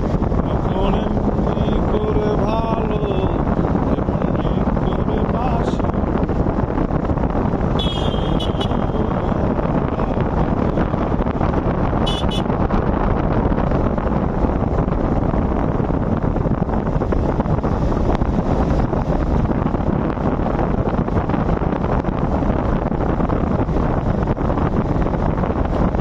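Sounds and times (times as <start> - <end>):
motorcycle engine: 0.0 - 26.0
wind rushing over microphone: 0.0 - 26.0.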